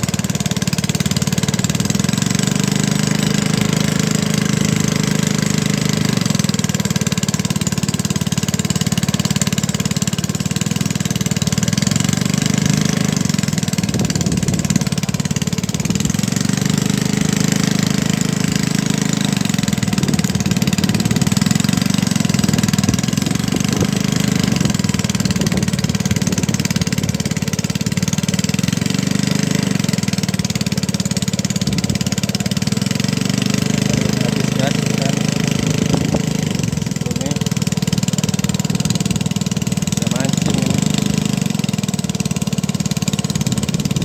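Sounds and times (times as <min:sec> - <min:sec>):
small petrol engine running: 0:00.0 - 0:44.0.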